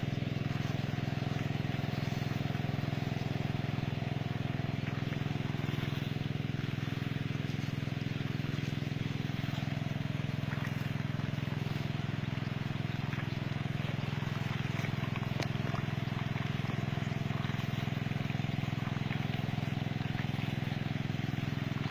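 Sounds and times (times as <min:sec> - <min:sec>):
small engine running steadily: 0:00.0 - 0:21.9.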